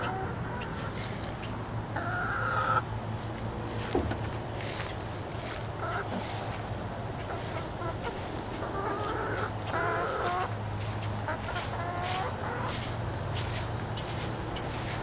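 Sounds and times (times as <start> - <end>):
chicken calls: 0.0 - 3.0, 4.6 - 15.0
chickens clucking: 0.0 - 15.0.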